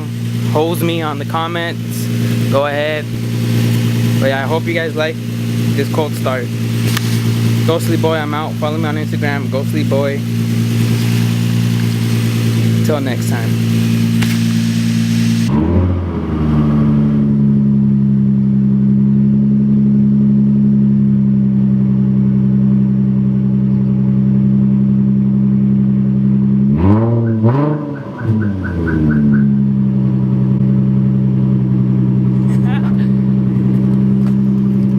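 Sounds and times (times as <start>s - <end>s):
engine revving: 0.0s - 21.2s, 23.9s - 34.9s
car engine idling: 0.0s - 34.9s.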